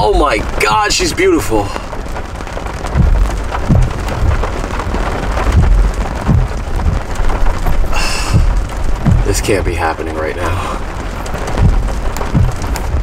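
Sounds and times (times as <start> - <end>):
heavy rain on car windshield: 0.0 - 13.0
loud low rumble: 1.7 - 13.0.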